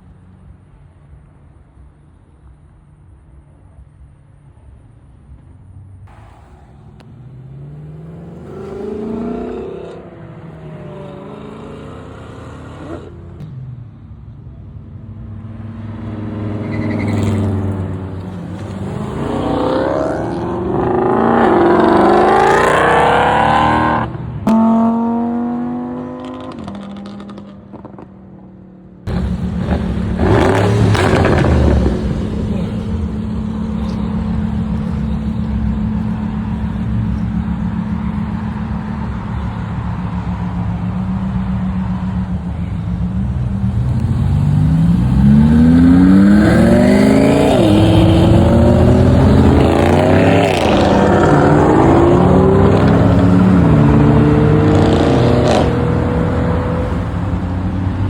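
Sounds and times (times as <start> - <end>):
loud engine droning: 6.0 - 28.1, 29.0 - 58.0
car engine revving and accelerating: 6.1 - 13.5, 15.3 - 28.1, 29.0 - 58.0.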